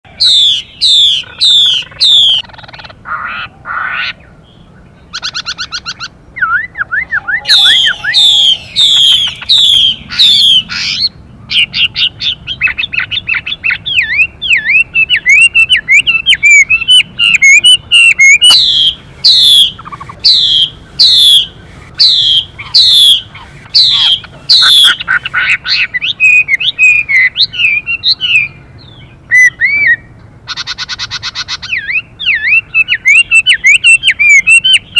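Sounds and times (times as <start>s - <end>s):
harsh buzzy bird calls: 0.1s - 34.9s
bird singing whistled notes: 0.2s - 2.7s, 4.4s - 34.9s.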